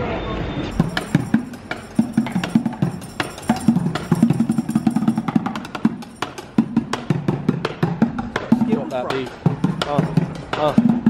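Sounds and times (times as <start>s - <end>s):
music with clicking percussive beat: 0.7s - 11.0s.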